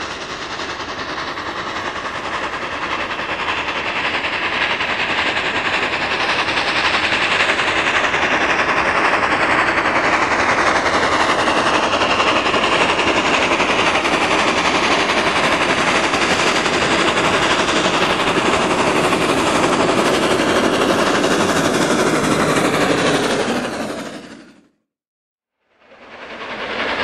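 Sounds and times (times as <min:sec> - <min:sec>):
steam locomotive exhaust beats: 0:00.0 - 0:24.7, 0:25.7 - 0:27.0
train on rails: 0:00.0 - 0:24.9, 0:25.6 - 0:27.0.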